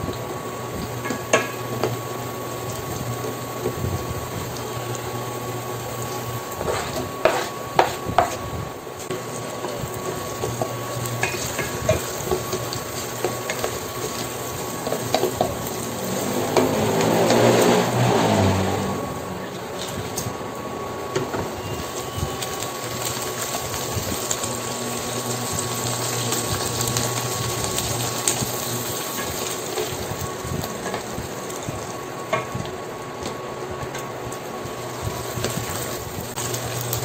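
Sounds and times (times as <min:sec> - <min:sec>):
garlic and onion sizzling in oil: 0:00.0 - 0:37.0.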